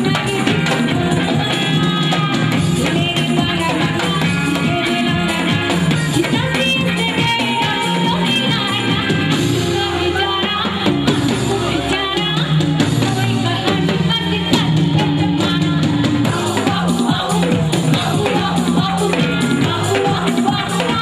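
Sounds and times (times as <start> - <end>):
live band with drums and keyboard: 0.0 - 21.0
woman singing through microphone: 0.0 - 21.0.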